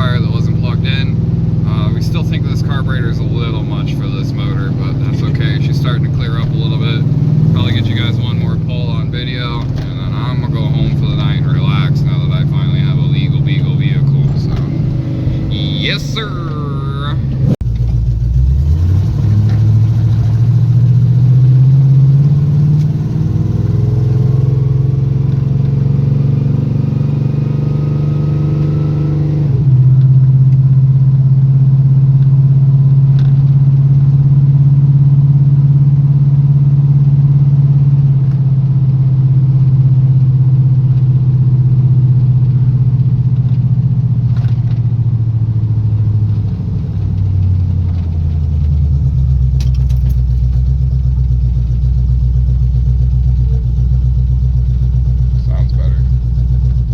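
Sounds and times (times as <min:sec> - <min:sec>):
truck engine accelerating hard: 0:00.0 - 0:56.9.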